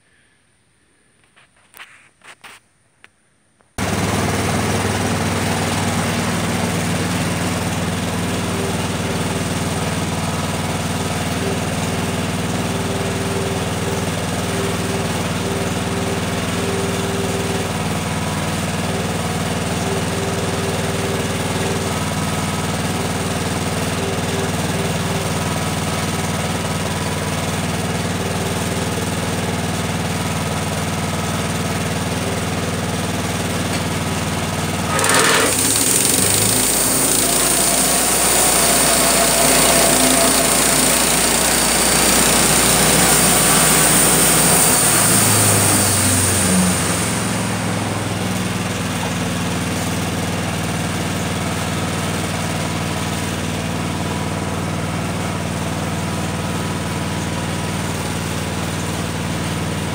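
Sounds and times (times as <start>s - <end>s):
sawmill engine running: 3.8s - 59.9s.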